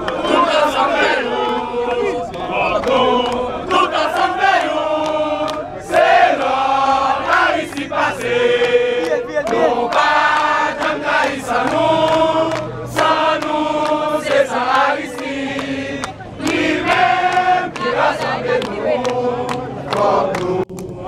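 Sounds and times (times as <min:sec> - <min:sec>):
crowd chanting in unison: 0:00.0 - 0:21.0.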